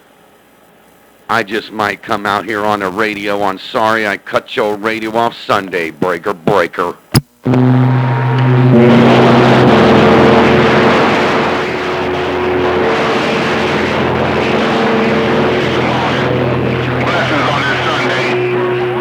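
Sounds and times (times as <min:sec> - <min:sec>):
radio receiver hiss: 0:00.0 - 0:07.7, 0:09.4 - 0:19.0
radio carrier hum tones: 0:01.2 - 0:19.0.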